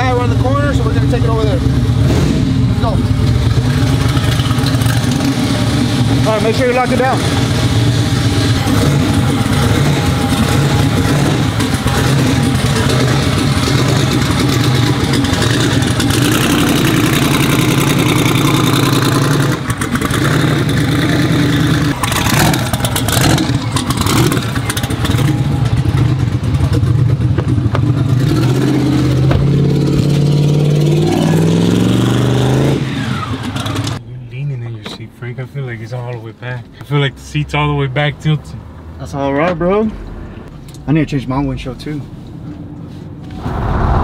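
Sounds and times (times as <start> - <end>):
truck engine idling and revving: 0.0 - 44.0.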